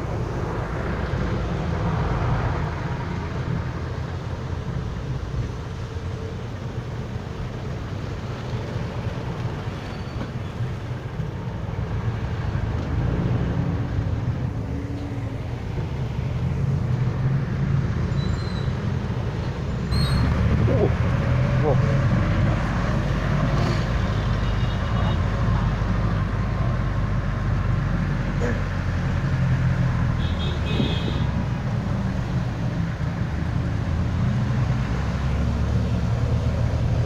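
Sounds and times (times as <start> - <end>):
vehicle engine drone: 0.0 - 37.0.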